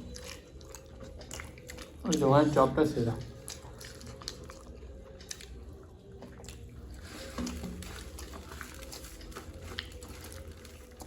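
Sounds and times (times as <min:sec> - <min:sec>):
chewing food: 0:00.0 - 0:11.0.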